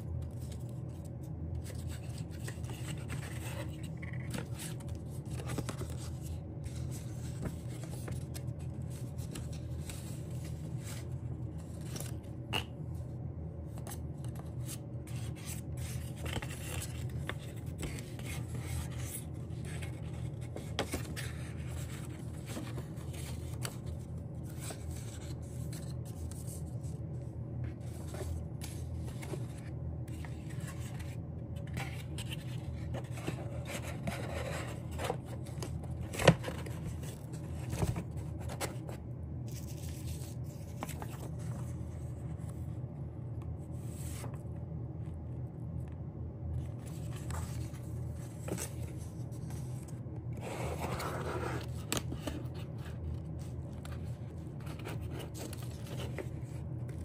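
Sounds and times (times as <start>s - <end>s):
steady low hum: 0.0s - 57.0s
paper and cardboard rustling: 0.1s - 12.7s, 13.6s - 42.8s, 43.6s - 44.4s, 46.6s - 57.0s.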